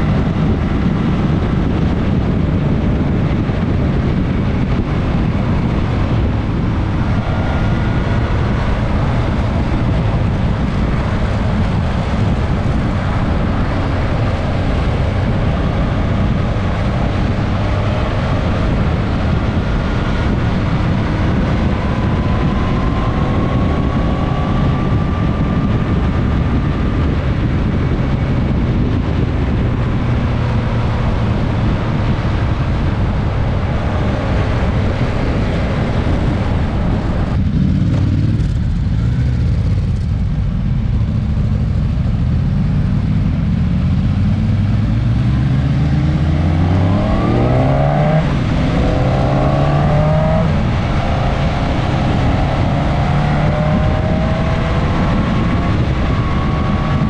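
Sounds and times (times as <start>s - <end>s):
motorcycle engine accelerating: 0.0s - 57.0s
wind rush over microphone: 0.0s - 57.0s.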